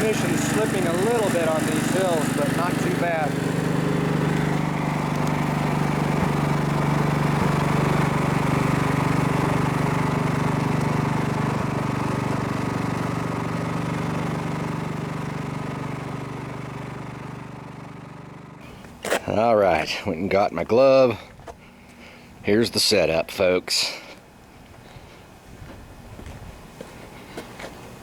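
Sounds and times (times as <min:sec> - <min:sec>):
riding lawn mower engine: 0:00.0 - 0:28.0.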